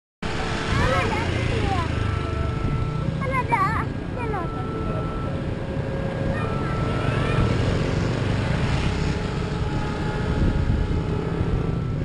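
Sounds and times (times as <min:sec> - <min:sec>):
motorcycle engines rumbling: 0:00.2 - 0:12.0
street traffic: 0:00.2 - 0:12.0.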